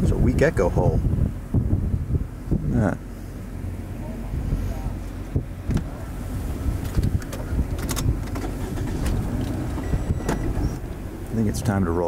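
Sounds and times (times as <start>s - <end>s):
wind buffeting the microphone: 0.0s - 11.9s.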